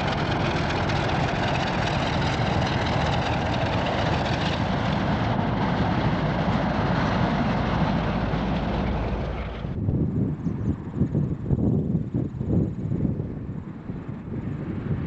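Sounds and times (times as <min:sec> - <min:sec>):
diesel locomotive engine: 0:00.0 - 0:15.0.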